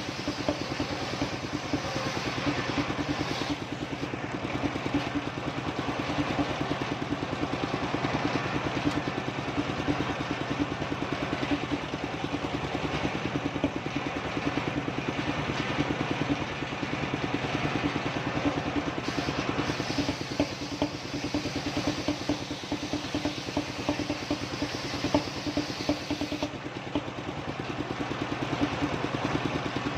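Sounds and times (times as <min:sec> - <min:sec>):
sawmill engine running: 0:00.0 - 0:29.9.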